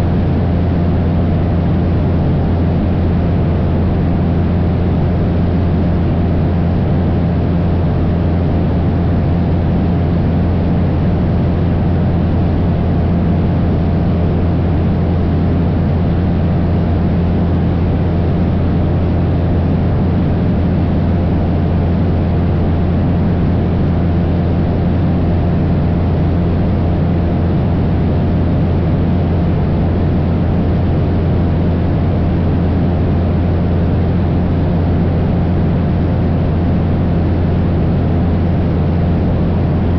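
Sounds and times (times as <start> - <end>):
light airplane engine droning: 0.0 - 39.9.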